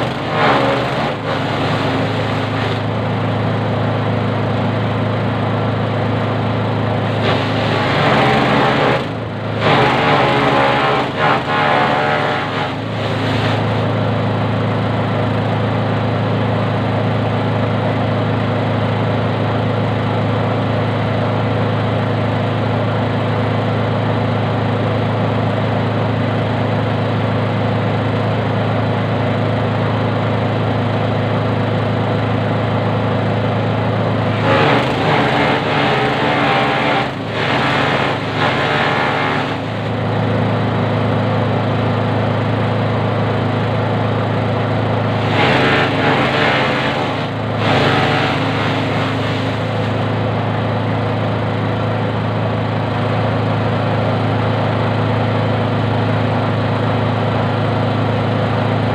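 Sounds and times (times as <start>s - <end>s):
small engine grass chopper running: 0.0s - 58.9s.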